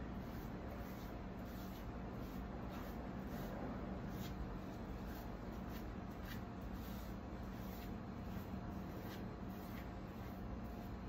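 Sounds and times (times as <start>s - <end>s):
low steady hum: 0.0s - 11.0s
paintbrush scratching on wood: 0.0s - 11.0s.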